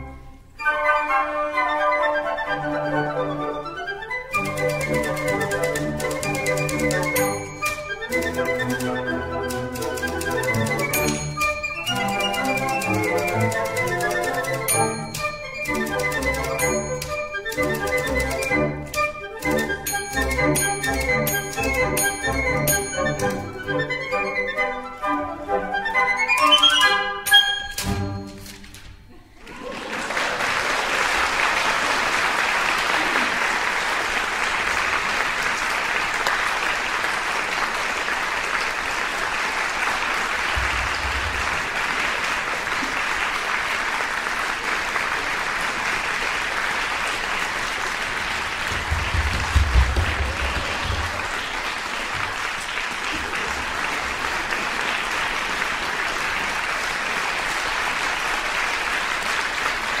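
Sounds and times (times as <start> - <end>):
audience applauding: 4.3 - 23.8, 29.2 - 60.0.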